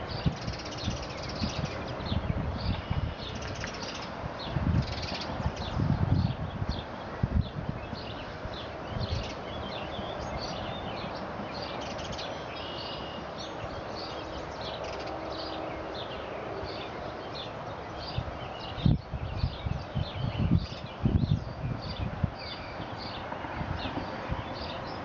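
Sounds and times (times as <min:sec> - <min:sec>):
small birds chirping and singing: 0:00.0 - 0:25.0.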